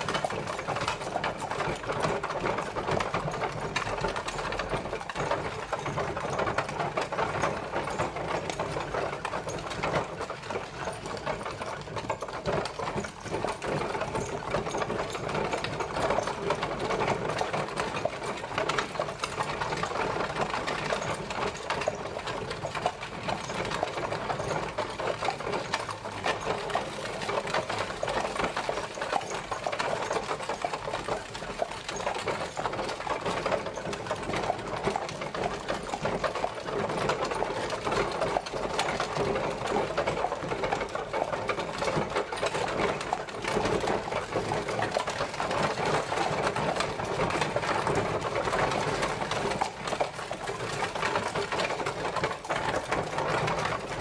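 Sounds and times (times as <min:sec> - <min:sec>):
carriage rattling and clattering: 0:00.0 - 0:54.0.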